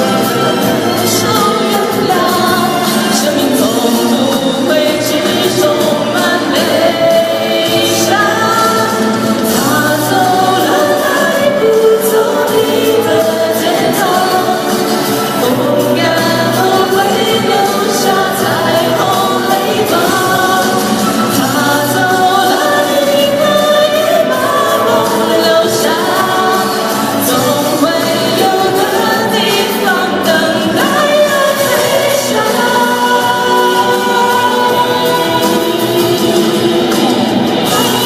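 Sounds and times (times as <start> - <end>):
pop song with singing: 0.0 - 38.0.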